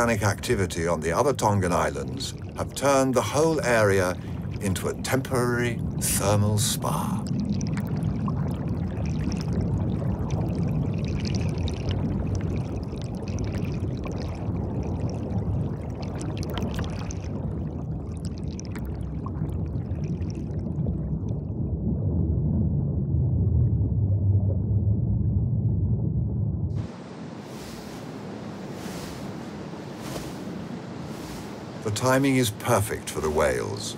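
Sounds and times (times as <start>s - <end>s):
deep underwater rumble: 0.0s - 31.8s
underwater bubbling and gurgling: 0.0s - 31.8s.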